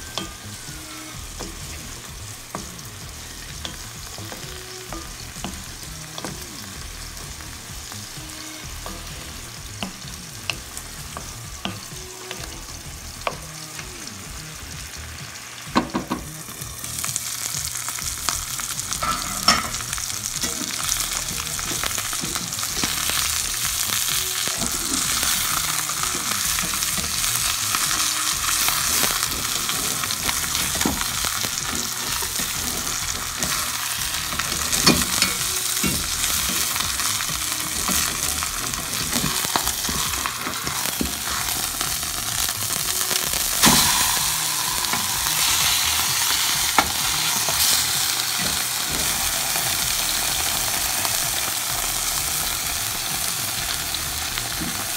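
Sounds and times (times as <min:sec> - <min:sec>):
hot oil sizzling in a skillet: 0:00.0 - 0:54.9.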